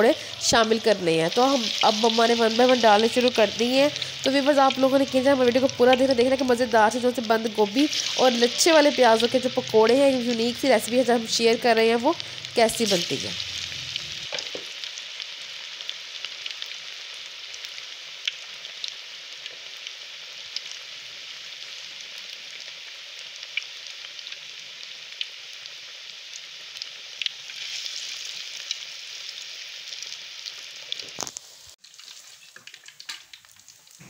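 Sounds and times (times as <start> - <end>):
food deep-frying in hot oil: 0.0 - 34.0.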